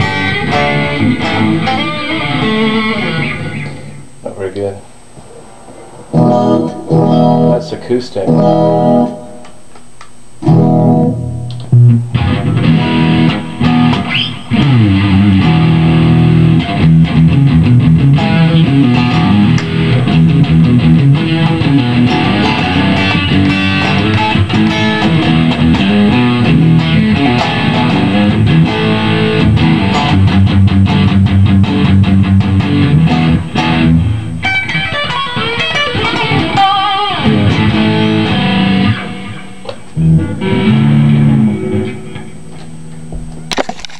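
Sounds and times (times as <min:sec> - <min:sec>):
electric guitar chords: 0:00.0 - 0:04.2, 0:05.0 - 0:43.9.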